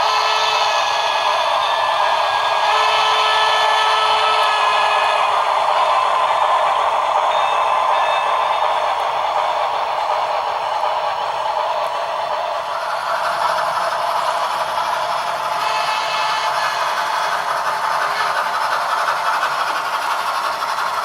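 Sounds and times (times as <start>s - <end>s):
model locomotive rattling on track: 0.0s - 21.0s.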